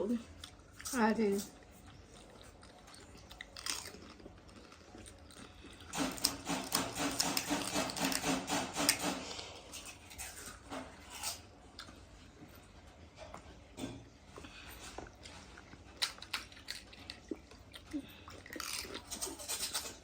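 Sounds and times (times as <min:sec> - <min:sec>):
chewing and crunching crisp food: 0:00.0 - 0:20.0.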